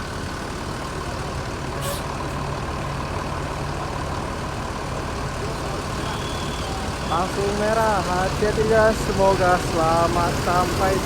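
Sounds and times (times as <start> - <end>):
diesel bus engine rumbling: 0.0 - 11.0.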